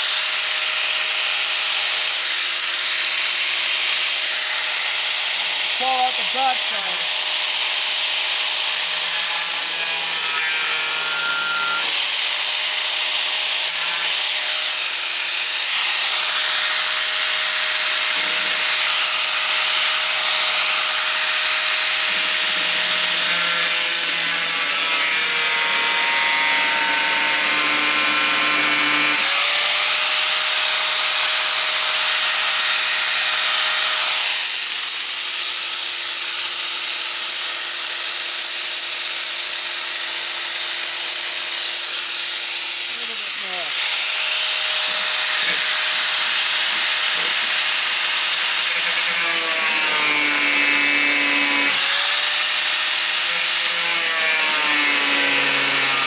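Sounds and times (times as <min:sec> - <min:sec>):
angle grinder cutting sheet metal: 0:00.0 - 0:56.0.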